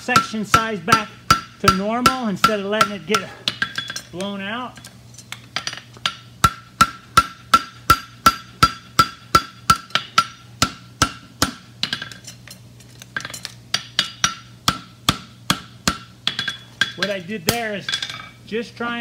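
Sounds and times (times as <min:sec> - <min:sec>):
hammer striking metal on anvil: 0:00.0 - 0:04.3, 0:05.6 - 0:12.3, 0:13.2 - 0:18.4.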